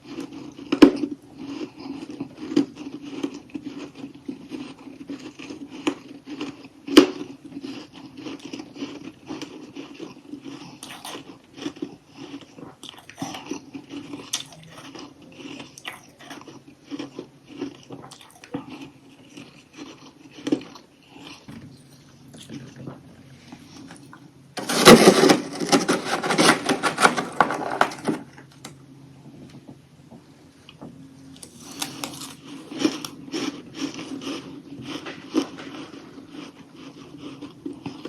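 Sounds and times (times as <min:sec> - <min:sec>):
crunchy frost chunks being chewed: 0:00.0 - 0:29.6, 0:30.7 - 0:38.0
faint steady low hum: 0:00.0 - 0:38.0.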